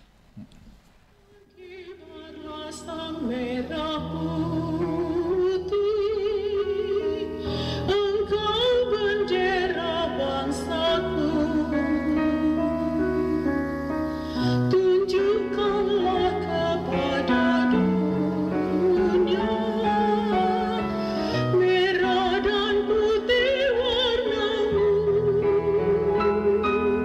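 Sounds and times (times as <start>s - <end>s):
song with vibrato singing: 1.3s - 27.0s.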